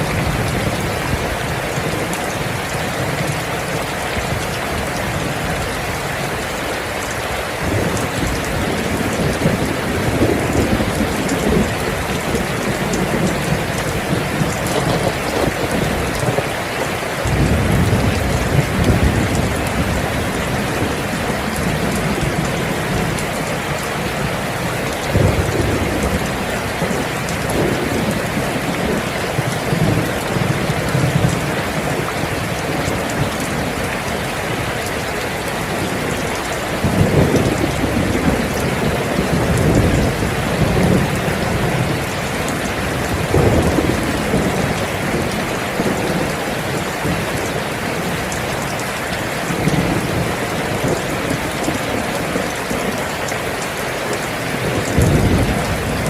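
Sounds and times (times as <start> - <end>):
thunder rumbling: 0.0 - 53.3, 54.1 - 56.0
steady rain falling: 0.0 - 56.0.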